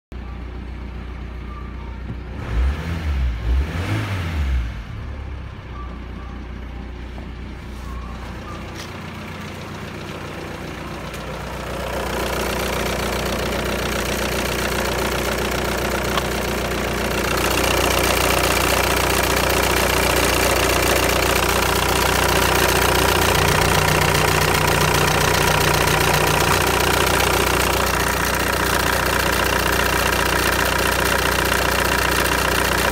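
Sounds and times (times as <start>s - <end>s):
diesel engine idling: 0.2s - 3.6s, 4.4s - 32.9s.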